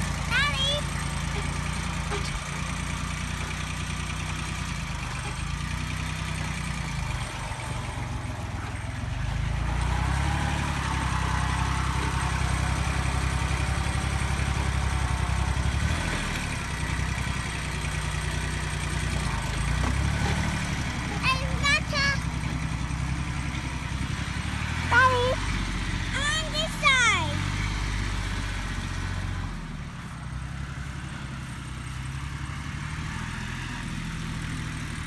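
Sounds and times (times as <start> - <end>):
diesel tractor engine running: 0.0 - 35.0.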